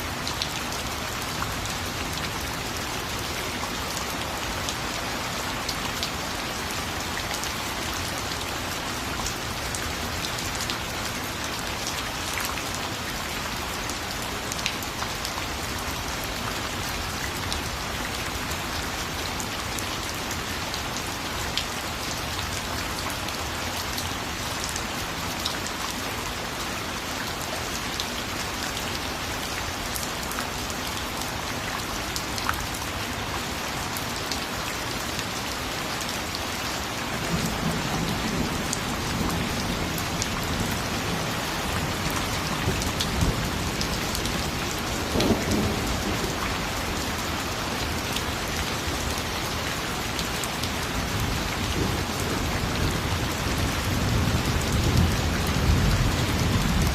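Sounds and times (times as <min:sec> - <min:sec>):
steady rain falling: 0:00.0 - 0:56.9
raindrops ticking on a surface: 0:00.1 - 0:56.9.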